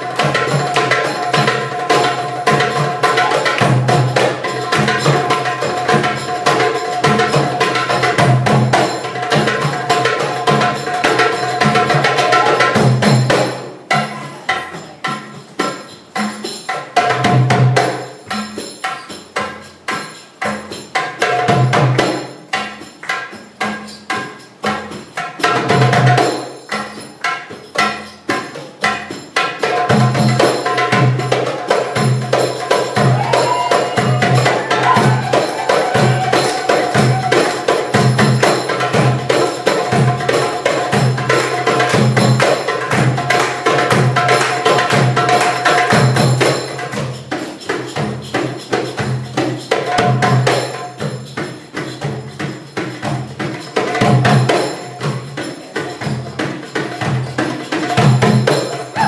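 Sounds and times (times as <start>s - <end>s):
goblet drums playing: 0.0s - 59.0s
tambourine jingling: 0.0s - 59.0s.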